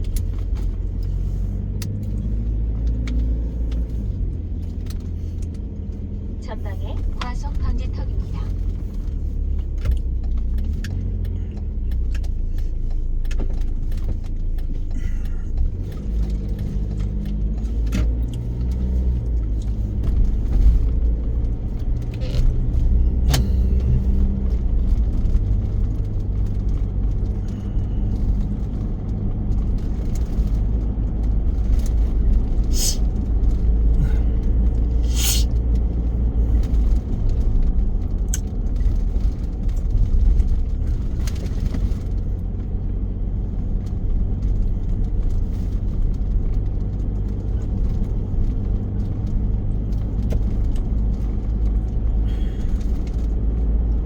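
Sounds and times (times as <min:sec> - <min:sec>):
car engine and road noise: 0:00.0 - 0:54.0
small clicks and rattles: 0:07.0 - 0:35.0, 0:35.6 - 0:54.0.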